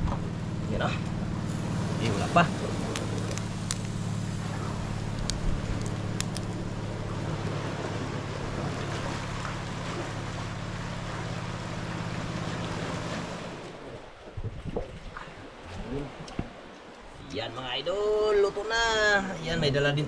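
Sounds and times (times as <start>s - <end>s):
engine running steadily: 0.0s - 17.1s.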